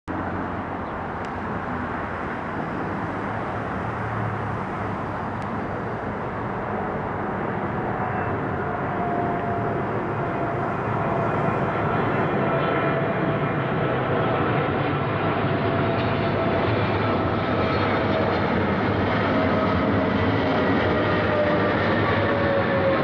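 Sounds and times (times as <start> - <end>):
faint jet whine: 0.1 - 23.0
jet engine rumble: 0.1 - 23.0.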